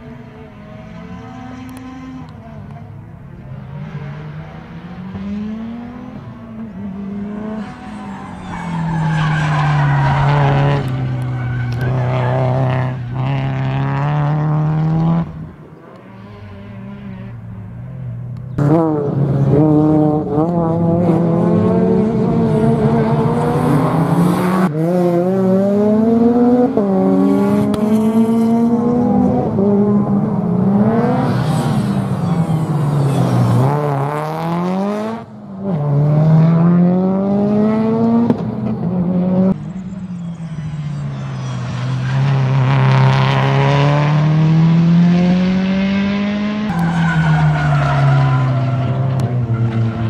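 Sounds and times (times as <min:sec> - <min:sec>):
rally car engine revving: 0:00.0 - 0:50.0.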